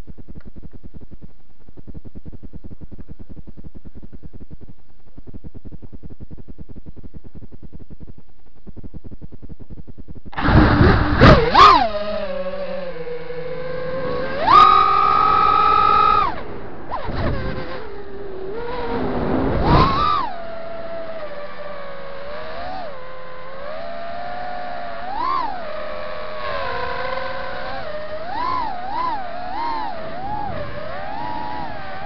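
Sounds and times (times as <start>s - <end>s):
drone motors whining: 0.1s - 32.0s.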